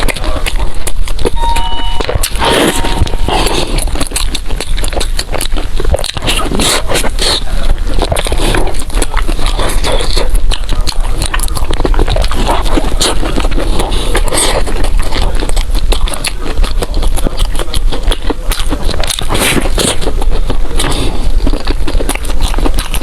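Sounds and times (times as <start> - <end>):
wet chewing and crunching: 0.0 - 23.0.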